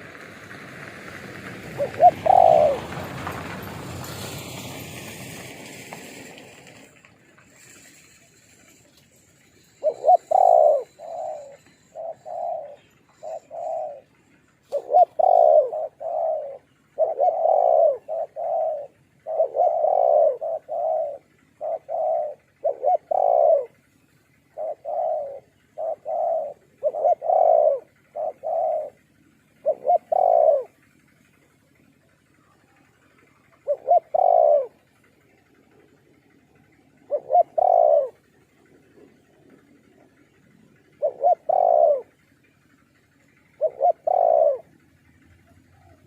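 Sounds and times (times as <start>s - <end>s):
doves cooing: 0.0s - 46.0s.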